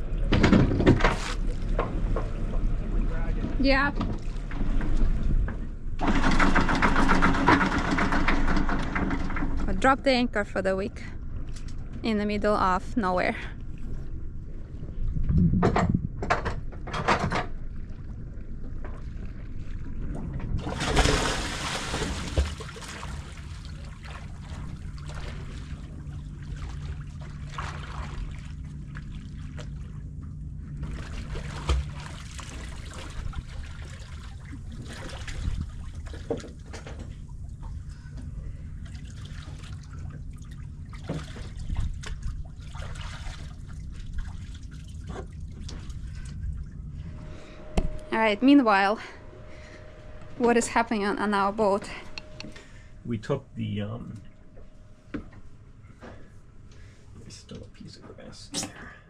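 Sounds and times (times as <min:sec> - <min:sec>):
steady low hum: 0:00.0 - 0:07.0, 0:08.0 - 0:59.0
water sloshing around a boat: 0:00.0 - 0:59.0.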